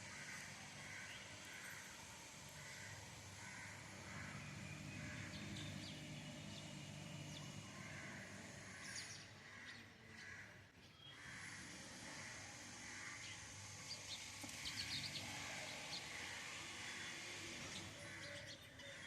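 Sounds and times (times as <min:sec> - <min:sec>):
birds calling: 0:00.0 - 0:19.0
low steady drone: 0:00.0 - 0:19.0.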